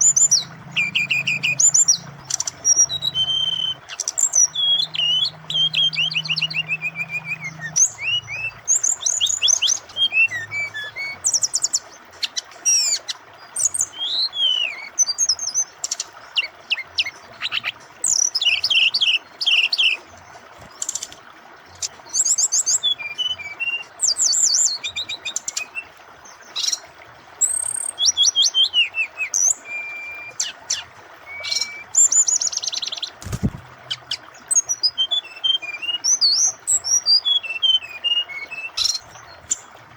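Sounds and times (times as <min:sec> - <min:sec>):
bird singing trills and whistles: 0:00.0 - 0:20.0, 0:21.8 - 0:26.8, 0:27.4 - 0:39.7
flowing water: 0:00.0 - 0:39.9.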